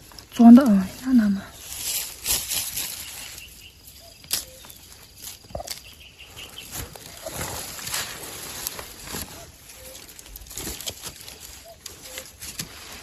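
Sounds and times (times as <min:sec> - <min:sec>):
pine needles rustling and crackling: 0:00.0 - 0:13.0.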